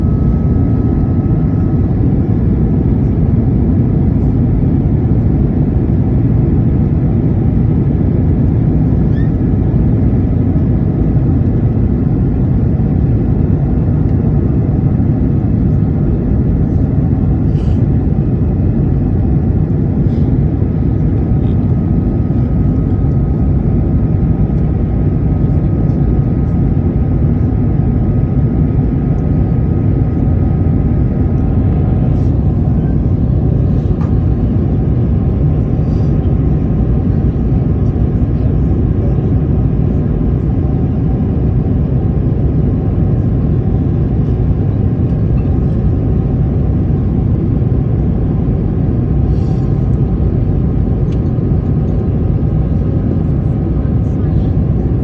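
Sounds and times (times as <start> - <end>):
faint engine whine: 0.0 - 55.0
jet engine cabin rumble: 0.0 - 55.0.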